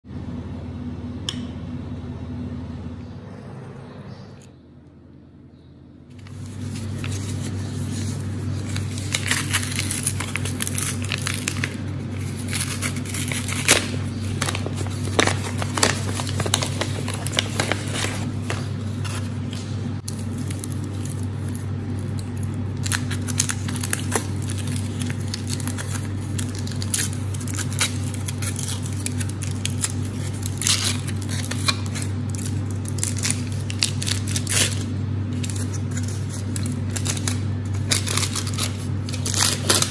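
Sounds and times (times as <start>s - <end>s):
low steady hum: 0.1s - 39.9s
foil wrapper crinkling and tearing: 6.1s - 39.9s
paper sleeve rustling: 6.1s - 39.9s.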